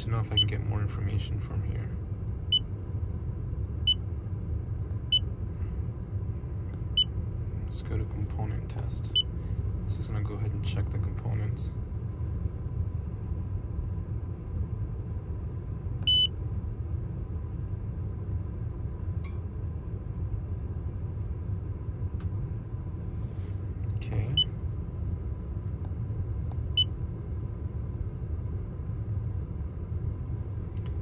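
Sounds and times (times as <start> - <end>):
low rumble inside car: 0.0 - 31.0.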